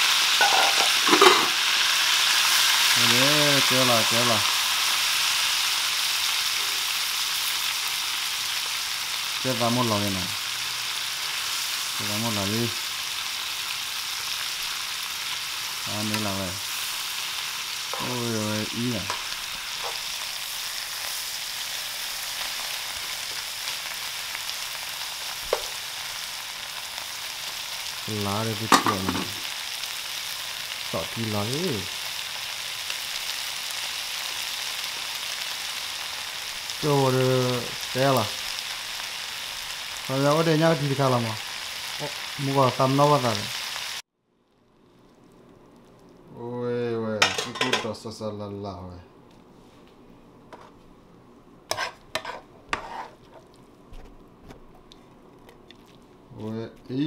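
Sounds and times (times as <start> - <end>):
vegetables sizzling in oil: 0.0 - 44.1, 51.7 - 54.1.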